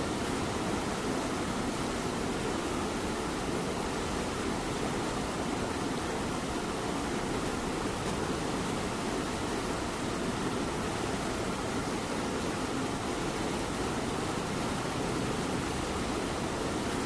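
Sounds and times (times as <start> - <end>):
light rain hiss: 0.0 - 17.0.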